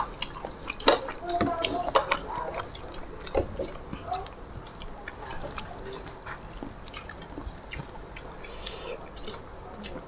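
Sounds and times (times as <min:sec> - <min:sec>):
chewing and lip smacks: 0:00.0 - 0:10.0.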